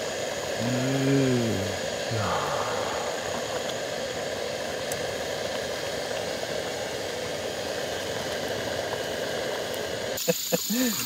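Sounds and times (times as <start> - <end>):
soup boiling: 0.0 - 11.0.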